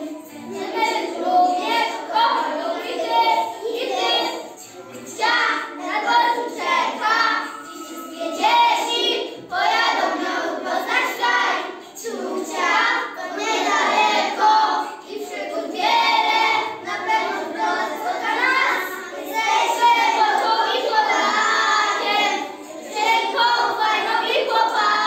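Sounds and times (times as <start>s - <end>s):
children singing: 0.0s - 25.0s.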